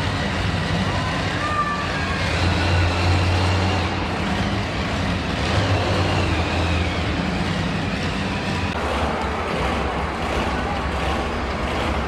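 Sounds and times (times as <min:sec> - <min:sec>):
monster truck engine drone: 0:00.0 - 0:12.0.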